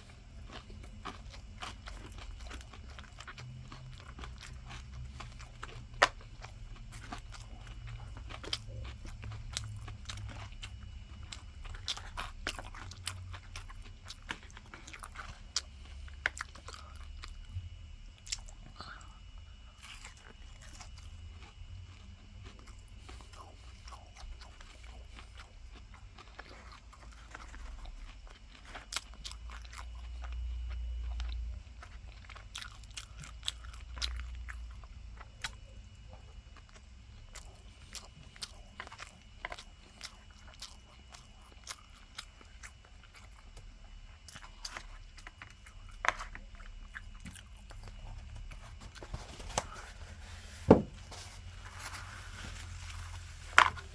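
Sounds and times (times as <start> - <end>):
chewing crisp fried food: 0.0 - 53.9.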